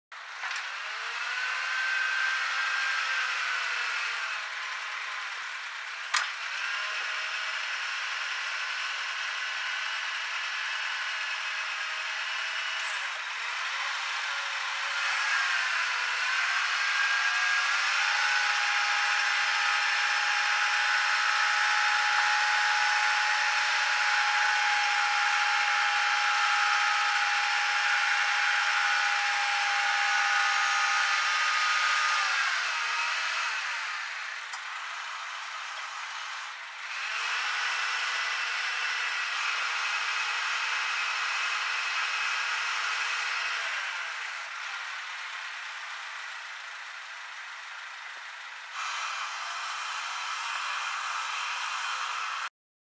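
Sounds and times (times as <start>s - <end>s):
hydraulic pump whining: 0.2s - 46.6s, 48.7s - 52.5s.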